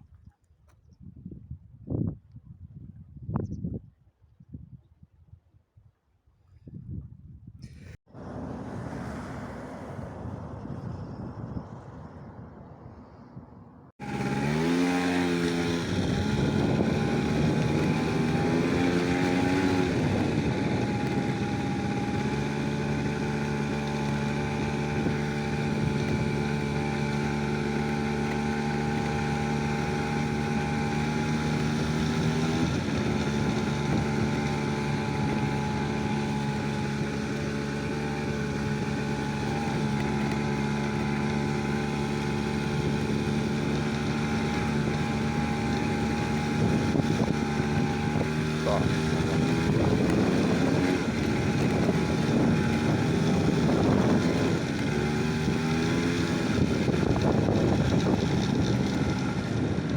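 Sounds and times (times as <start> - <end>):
engine starting and running: 7.6 - 59.9.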